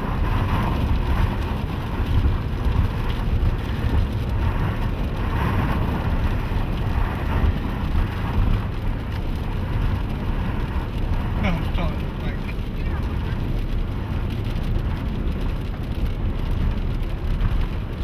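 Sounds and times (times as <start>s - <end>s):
car road and wind noise: 0.0s - 18.0s
rain on windshield: 0.0s - 18.0s.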